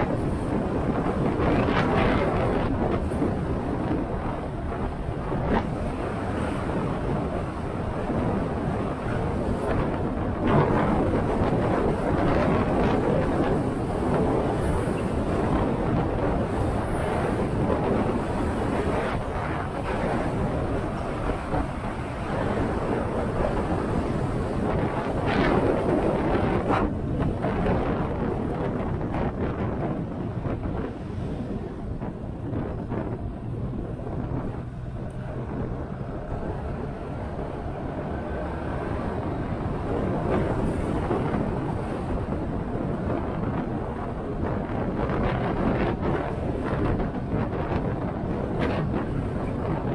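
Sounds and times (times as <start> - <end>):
road noise: 0.0 - 49.9
wind rushing over microphone: 0.0 - 49.9.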